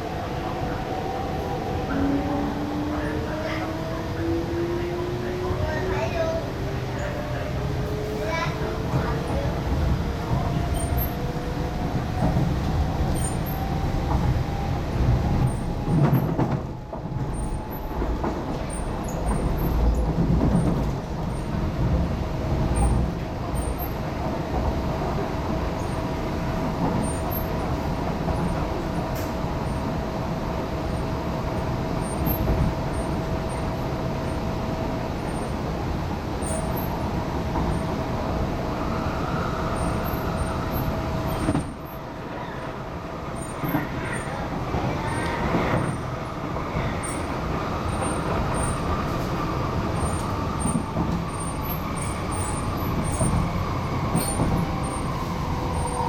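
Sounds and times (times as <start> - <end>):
train running rumble: 0.0 - 56.0
train traction whine: 0.0 - 56.0.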